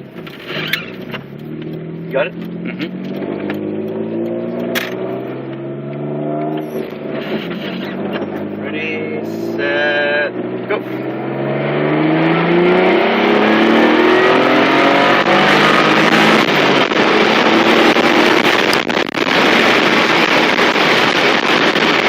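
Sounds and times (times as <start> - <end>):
car engine at full throttle: 0.0 - 22.0
loud steady rushing noise: 1.3 - 22.0.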